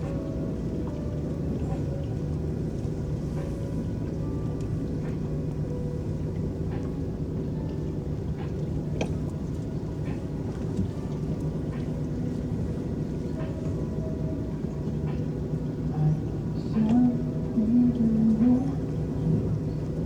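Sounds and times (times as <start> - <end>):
water wash: 0.0 - 20.0.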